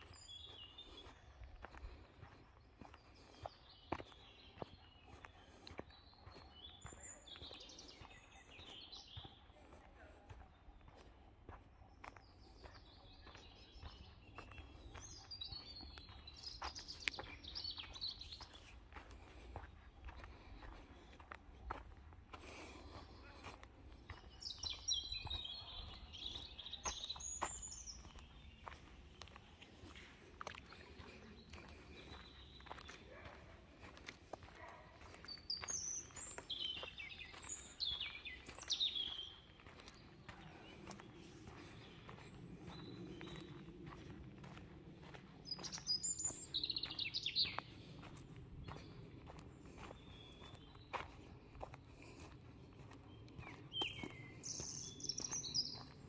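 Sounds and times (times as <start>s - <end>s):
footsteps on dirt path: 0.0s - 56.0s
songbirds trilling and chirping: 0.0s - 56.0s.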